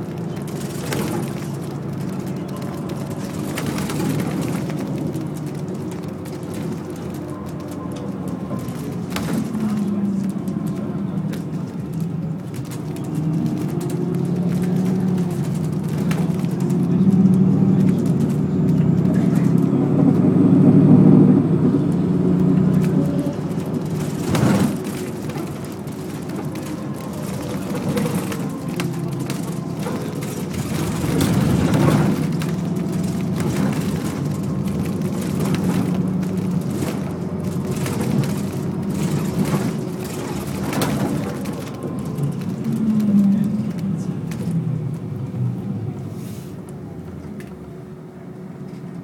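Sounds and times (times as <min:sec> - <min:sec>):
bus engine hum: 0:00.0 - 0:49.0
road noise: 0:00.0 - 0:49.0.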